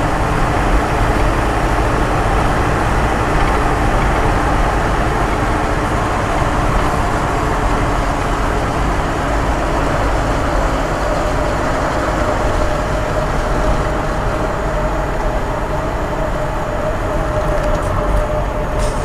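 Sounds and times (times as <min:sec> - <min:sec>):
steady whine: 0:00.0 - 0:19.0
two-stroke car engine and road noise: 0:00.0 - 0:19.0.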